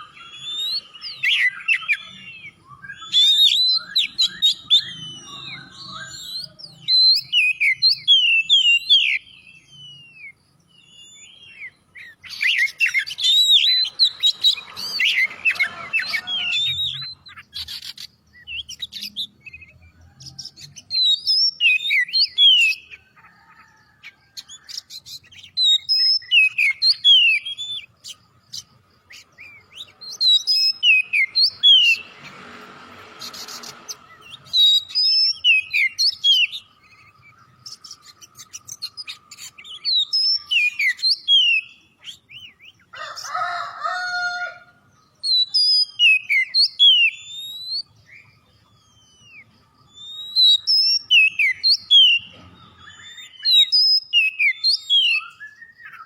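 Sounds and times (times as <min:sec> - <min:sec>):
bird singing whistles and chirps: 0:00.0 - 0:23.7, 0:24.3 - 0:32.3, 0:33.2 - 0:42.9, 0:45.1 - 0:56.0.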